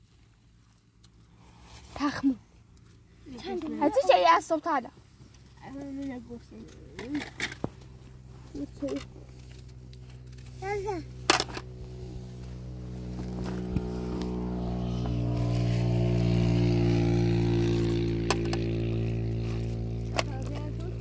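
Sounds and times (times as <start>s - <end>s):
vehicle engine passing: 1.3s - 21.0s.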